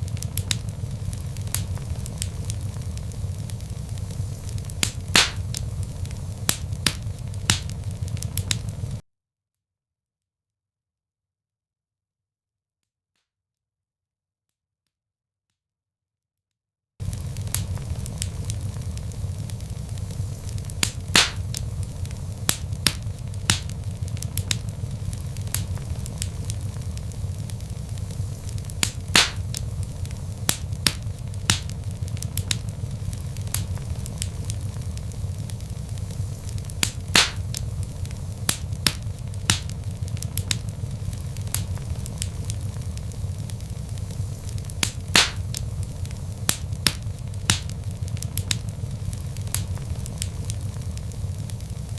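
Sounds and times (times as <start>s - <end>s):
log fire crackling: 0.0s - 9.0s, 17.0s - 51.9s.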